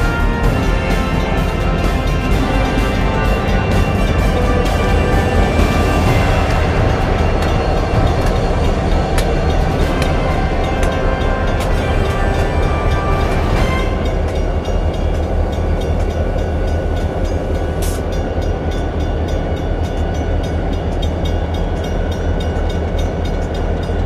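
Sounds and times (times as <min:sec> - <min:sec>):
background music: 0:00.0 - 0:24.0
train rumbling: 0:00.0 - 0:24.0.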